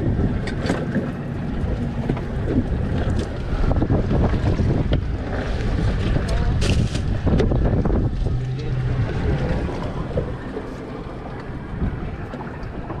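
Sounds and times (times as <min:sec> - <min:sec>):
heavy low rumble: 0:00.0 - 0:13.0
low steady hum: 0:00.0 - 0:13.0
wind buffeting microphone: 0:00.0 - 0:13.0.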